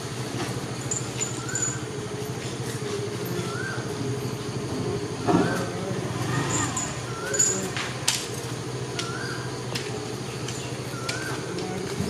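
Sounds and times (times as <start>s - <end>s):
lorry engine idling: 0.0s - 12.0s.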